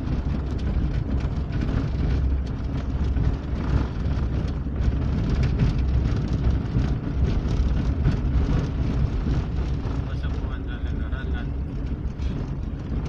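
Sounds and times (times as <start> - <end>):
engine and tyres rumbling: 0.0 - 13.0
stones clicking under tyres: 0.0 - 13.0.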